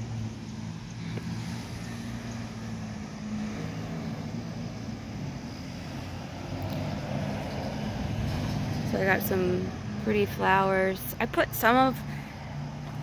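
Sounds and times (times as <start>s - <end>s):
faint outdoor noise: 0.0s - 13.0s.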